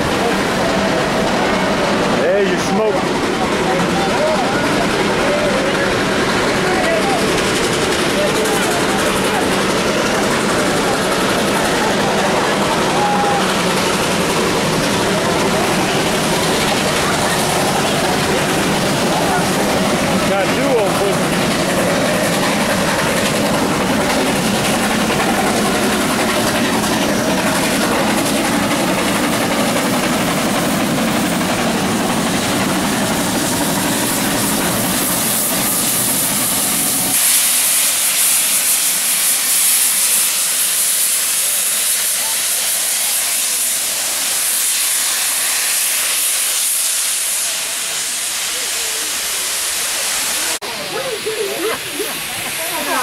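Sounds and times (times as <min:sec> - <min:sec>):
loud high steam hiss: 0:00.0 - 0:53.0
steam locomotive rumble: 0:00.0 - 0:53.0.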